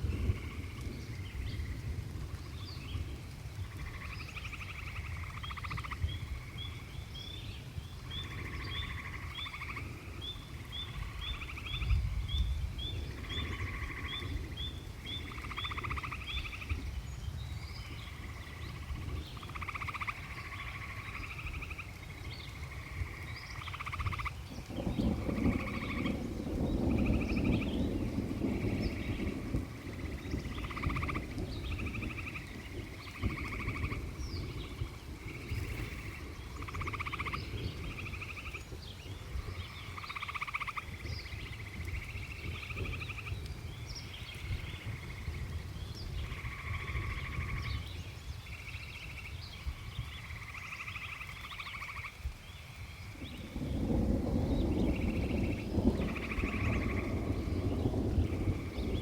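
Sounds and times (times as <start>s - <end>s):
frogs calling in trills: 0.1s - 59.0s.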